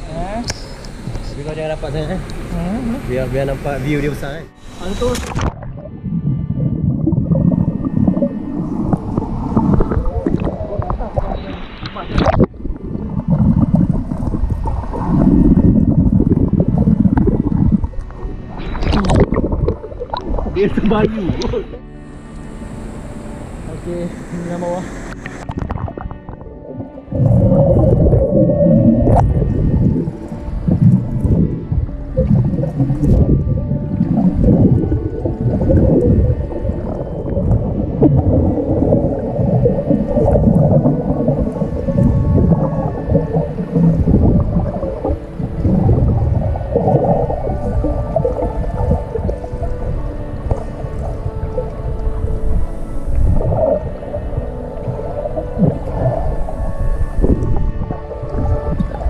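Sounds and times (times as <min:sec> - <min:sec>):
muffled underwater gurgling: 0:00.0 - 0:59.0
water splashing: 0:04.0 - 0:22.6, 0:23.8 - 0:59.0.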